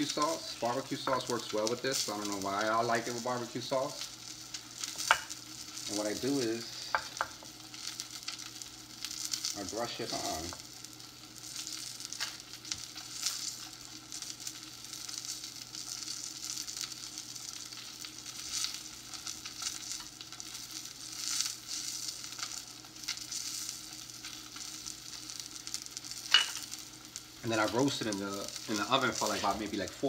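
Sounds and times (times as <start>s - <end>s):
fish sizzling in a frying pan: 0.0s - 30.0s
oil popping and crackling: 0.0s - 30.0s.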